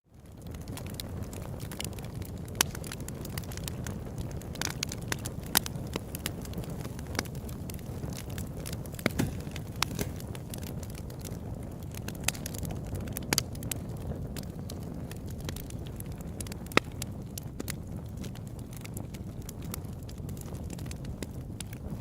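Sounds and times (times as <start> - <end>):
low rumble of flames: 0.0 - 22.0
fire crackling and popping: 0.1 - 22.0.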